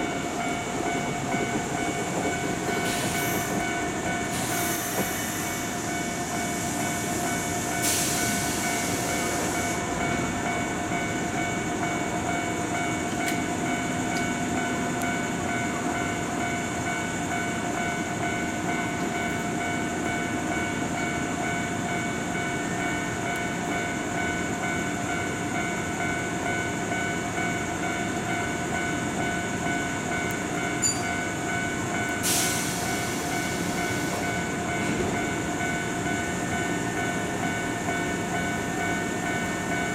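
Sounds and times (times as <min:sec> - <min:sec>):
electric train equipment hum: 0:00.0 - 0:39.9.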